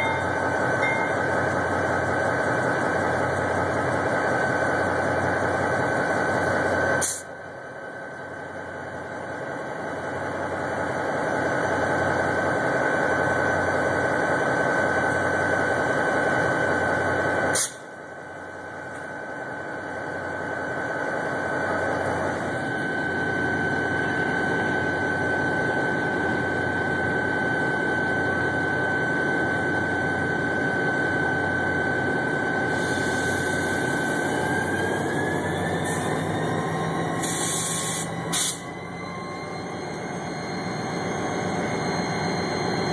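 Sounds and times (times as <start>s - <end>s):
locomotive diesel engine idling: 0.0s - 42.9s.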